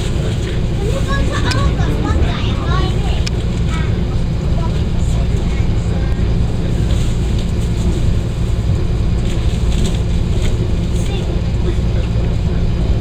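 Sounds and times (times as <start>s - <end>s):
wheels on rail: 0.0s - 12.9s
diesel engine drone: 0.0s - 13.0s.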